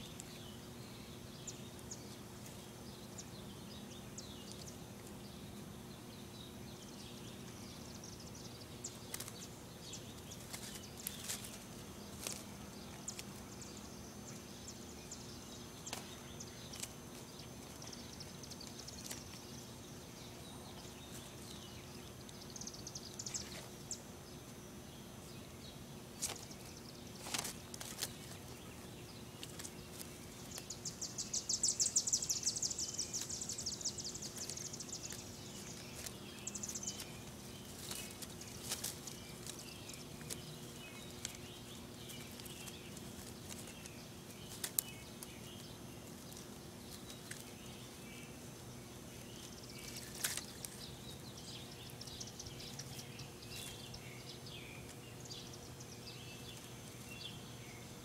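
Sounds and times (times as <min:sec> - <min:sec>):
kittens rustling dry twigs: 0:00.0 - 0:24.7, 0:25.7 - 0:58.0
faint steady hum: 0:00.0 - 0:58.0.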